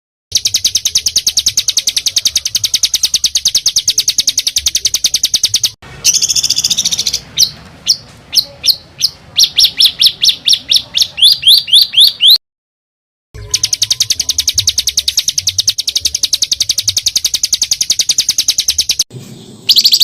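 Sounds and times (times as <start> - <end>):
songbird rattling song: 0.3 - 12.4, 13.4 - 20.0.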